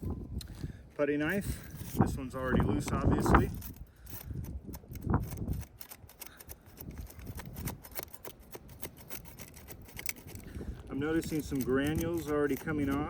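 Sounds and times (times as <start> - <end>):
putty knife scraping shingles: 1.3 - 13.0.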